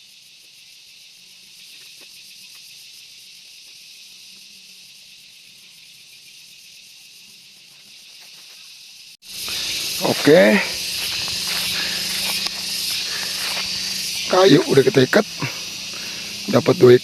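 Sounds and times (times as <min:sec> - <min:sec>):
chorus of forest insects: 0:00.0 - 0:17.0.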